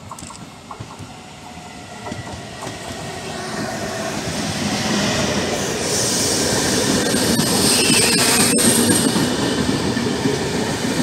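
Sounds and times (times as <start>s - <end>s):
train wheel and rail noise: 0.0s - 11.0s.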